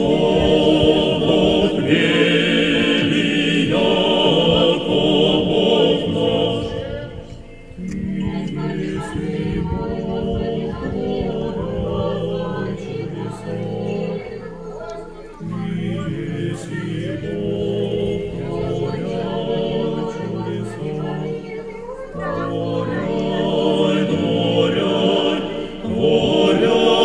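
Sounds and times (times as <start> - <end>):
church choir singing: 0.0 - 27.0.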